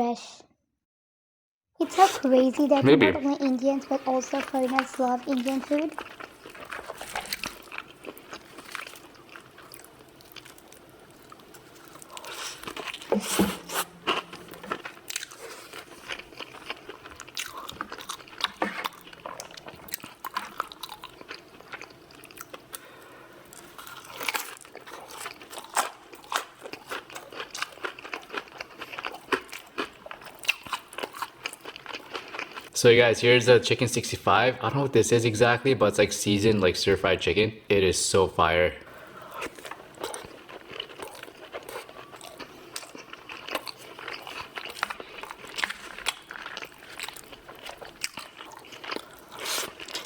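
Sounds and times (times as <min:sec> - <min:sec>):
crunchy food chewing: 0:02.8 - 0:32.8, 0:38.9 - 0:50.0.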